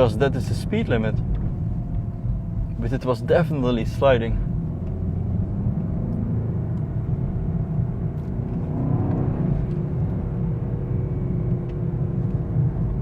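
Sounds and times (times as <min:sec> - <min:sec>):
car engine rumble from cabin: 0:00.0 - 0:13.0
road noise: 0:00.0 - 0:13.0.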